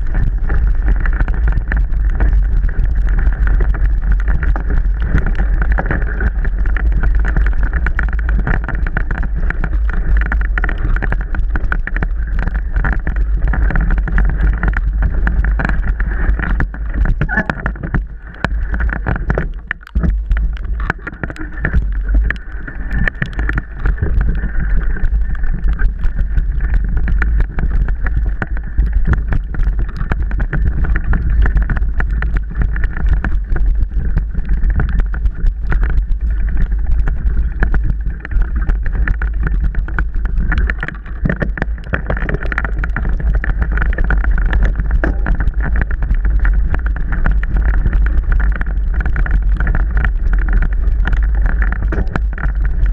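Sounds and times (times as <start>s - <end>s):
bike rattling and knocking: 0.0s - 52.9s
wind on microphone: 0.0s - 52.9s.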